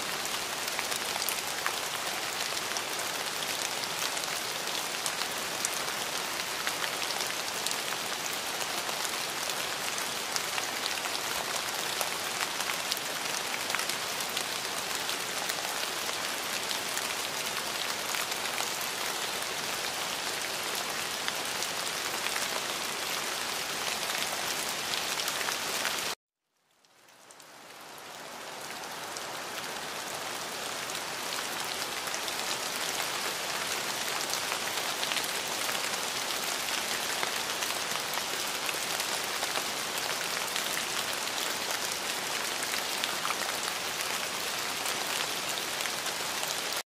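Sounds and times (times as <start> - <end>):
steady rain falling: 0.0 - 46.8.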